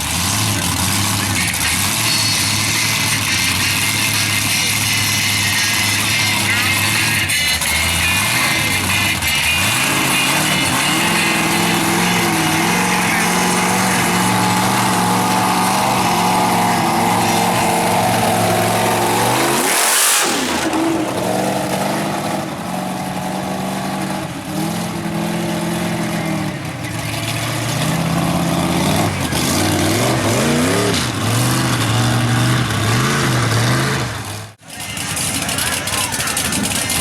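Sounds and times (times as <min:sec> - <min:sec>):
truck engine revving loudly: 0:00.0 - 0:37.0.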